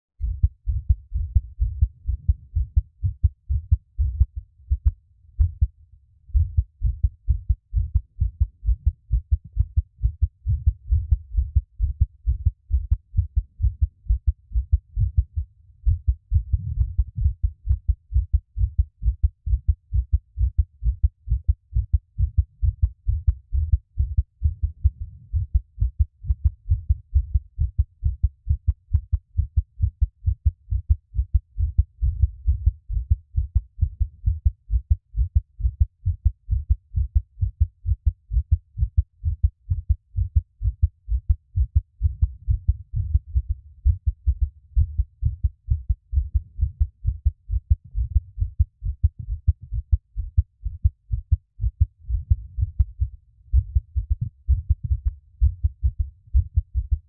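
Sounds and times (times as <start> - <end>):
heartbeat thumps: 0.2 - 57.0.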